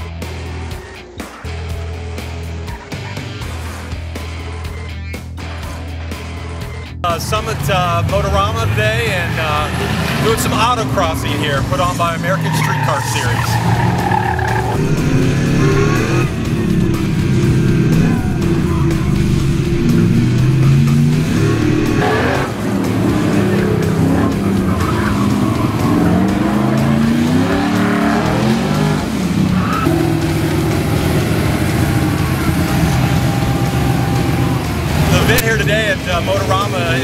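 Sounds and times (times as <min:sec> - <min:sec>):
tires squealing: 0:00.0 - 0:04.8, 0:07.1 - 0:37.0
car engines revving: 0:00.0 - 0:37.0.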